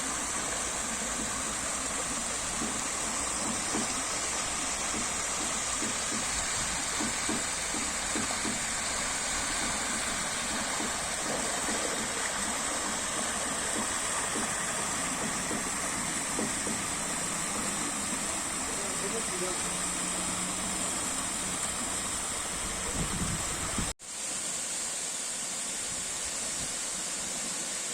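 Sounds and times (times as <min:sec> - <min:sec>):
stream water flowing: 0:00.0 - 0:27.9.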